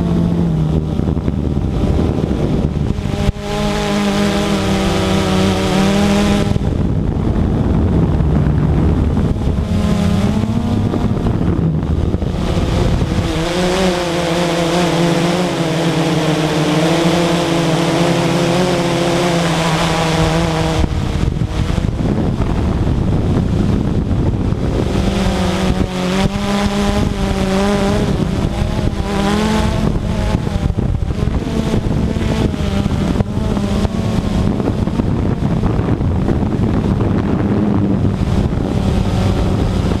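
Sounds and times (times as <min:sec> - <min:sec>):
model aircraft motor: 0:00.0 - 0:40.0.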